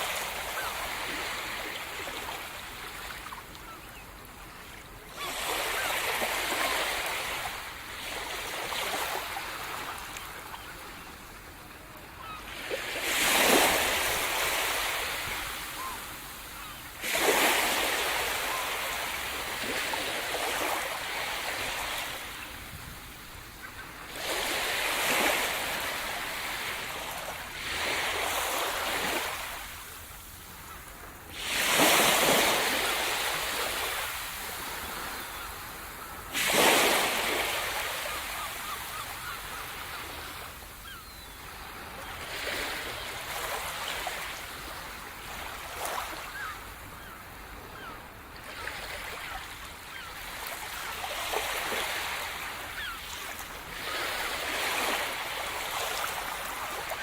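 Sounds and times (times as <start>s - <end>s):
waves crashing on shore: 0.0s - 3.8s, 5.2s - 48.0s, 48.6s - 57.0s.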